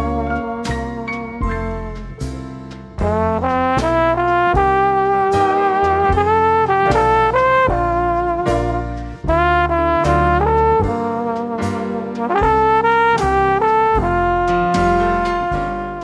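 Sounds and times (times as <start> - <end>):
brass melody with drums: 0.0 - 16.0.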